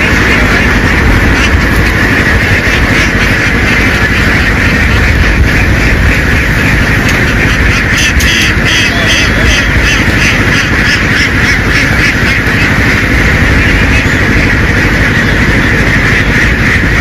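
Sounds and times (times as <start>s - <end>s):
ducks quacking: 0.0s - 17.0s
truck rumbling: 0.0s - 17.0s.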